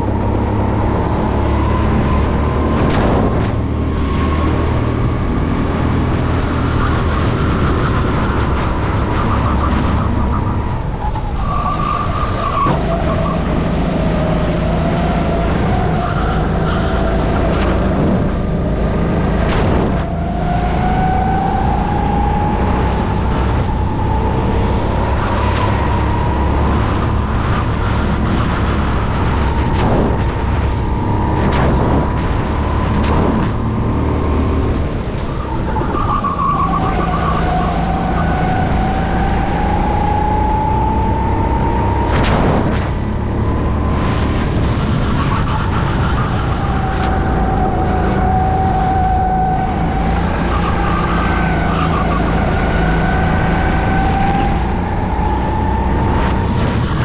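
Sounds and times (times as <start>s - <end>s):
kart engine at high revs: 0.0s - 57.0s.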